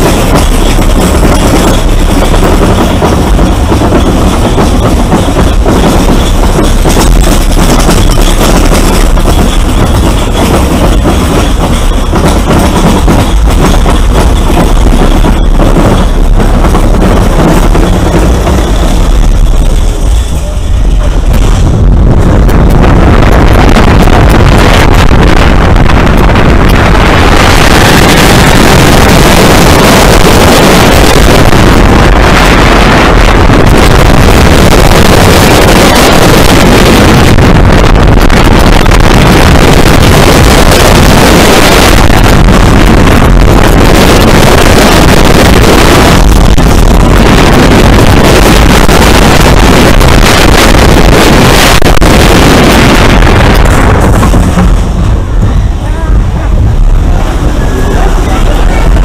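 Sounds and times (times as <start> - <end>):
roller coaster rumble: 0.0 - 59.0
wind buffeting microphone: 0.0 - 59.0.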